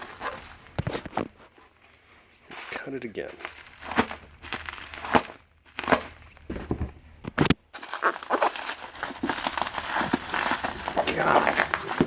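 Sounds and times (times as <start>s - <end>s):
plastic packing rustling: 0.0s - 12.0s.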